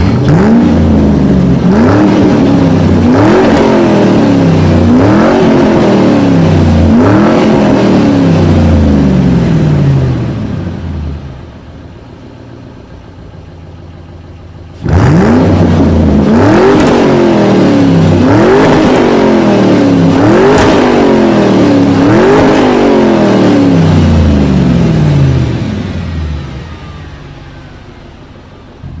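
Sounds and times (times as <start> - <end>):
sports car engine revving: 0.0 - 11.9, 12.8 - 29.0.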